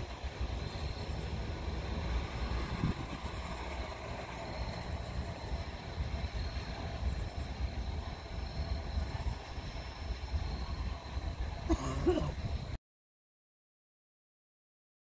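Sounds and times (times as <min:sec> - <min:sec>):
freight train rumbling: 0:00.0 - 0:12.8.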